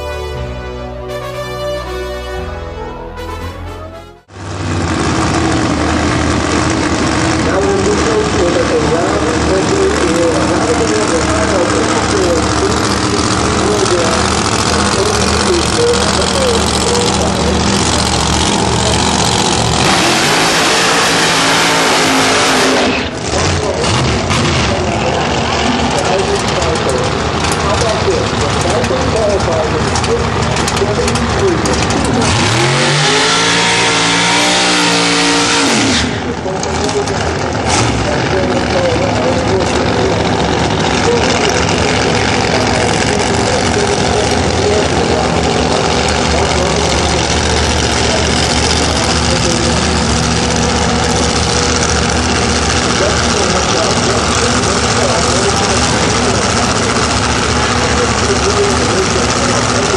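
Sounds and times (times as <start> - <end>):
drag racing car engines rumbling: 0.0 - 59.9.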